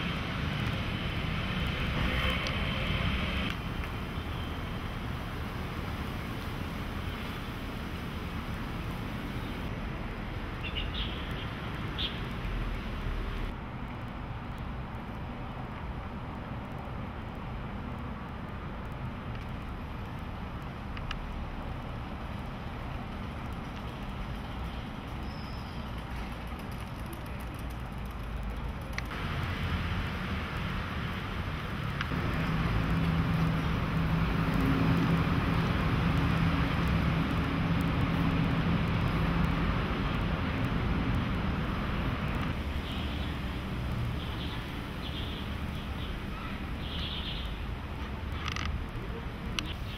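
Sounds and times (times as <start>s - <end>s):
road traffic noise: 0.0s - 49.9s.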